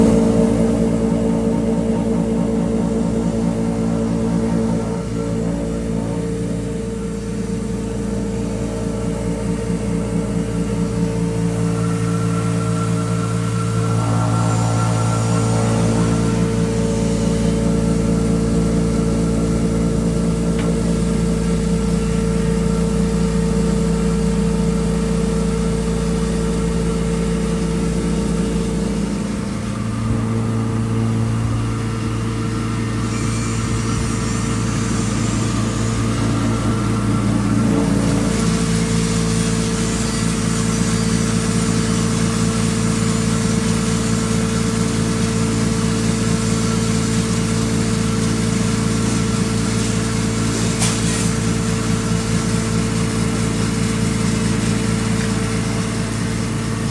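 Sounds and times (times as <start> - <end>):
grinding machine motor hum: 0.0 - 56.9.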